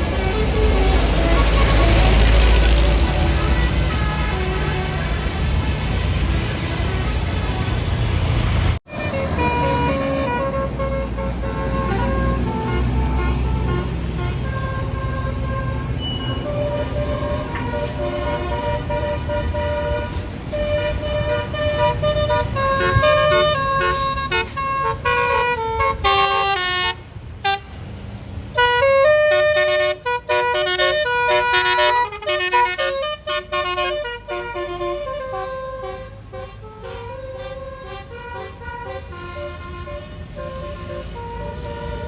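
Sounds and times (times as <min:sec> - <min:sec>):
bus air horn melody: 0:00.0 - 0:07.8, 0:08.9 - 0:27.9, 0:28.5 - 0:42.0
bus engine rumbling: 0:00.0 - 0:42.0.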